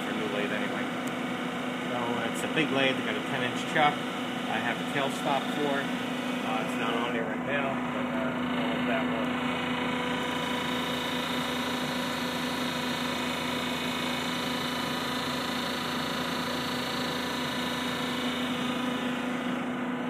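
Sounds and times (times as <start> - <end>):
lathe mechanical hum: 0.0 - 20.0.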